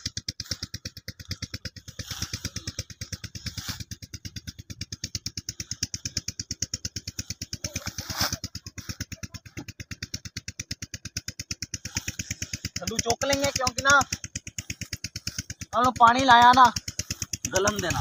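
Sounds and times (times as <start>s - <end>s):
diesel engine chugging: 0.0s - 18.0s.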